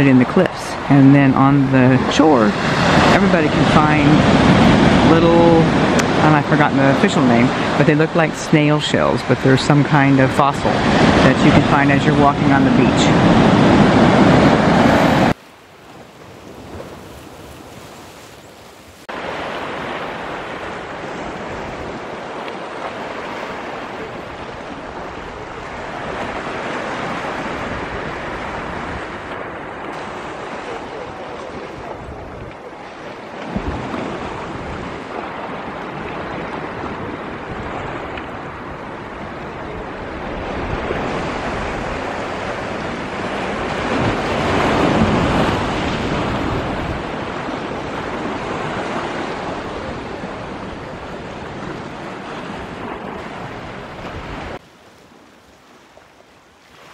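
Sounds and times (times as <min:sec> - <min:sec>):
wind buffeting microphone: 0:00.0 - 0:15.4, 0:16.0 - 0:54.6
sea waves washing on beach: 0:00.0 - 0:56.9.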